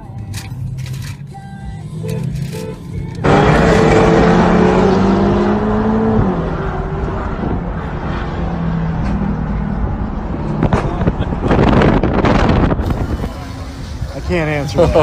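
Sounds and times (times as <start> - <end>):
car engine at high revs: 2.0 - 14.2.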